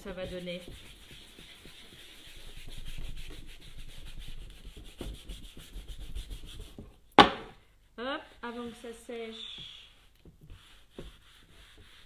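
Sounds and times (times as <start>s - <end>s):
paintbrush scrubbing on panel: 0.0s - 6.8s, 8.6s - 12.0s.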